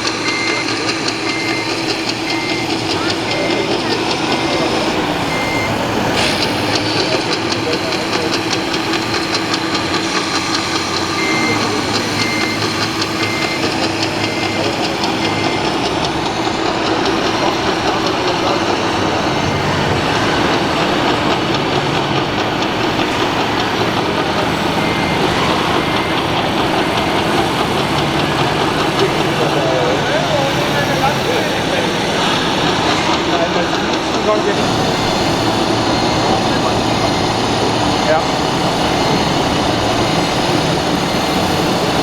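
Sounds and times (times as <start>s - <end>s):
crowd noise: 0.0s - 42.0s
engine sound: 0.0s - 42.0s
reversing beeper: 0.0s - 42.0s.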